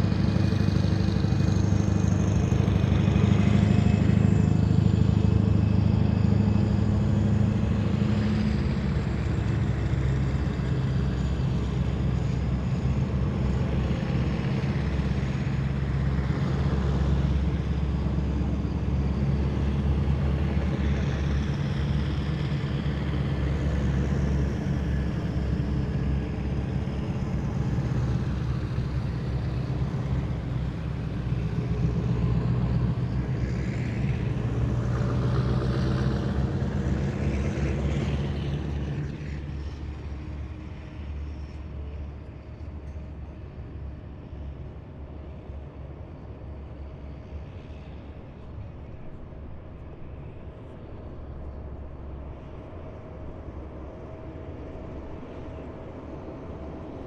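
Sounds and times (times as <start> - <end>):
heavy vehicles driving past: 0.0 - 57.0.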